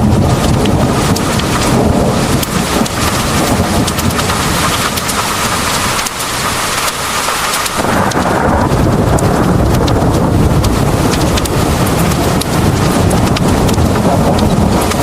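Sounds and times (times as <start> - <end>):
heavy rain pouring: 0.0 - 15.0
low rumble of thunder: 0.0 - 15.0
raindrops ticking on hard surface: 0.0 - 15.0.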